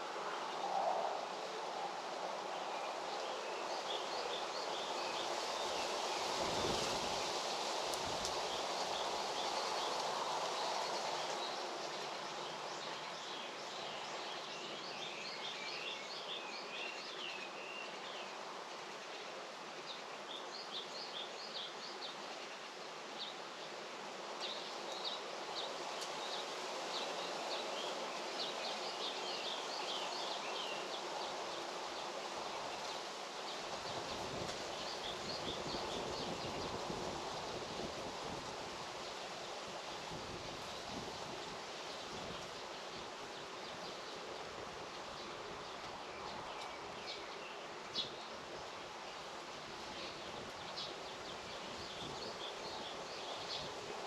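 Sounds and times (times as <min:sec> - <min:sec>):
outdoor rustling hiss: 0:00.0 - 0:54.0
songbirds chirping: 0:00.0 - 0:54.0.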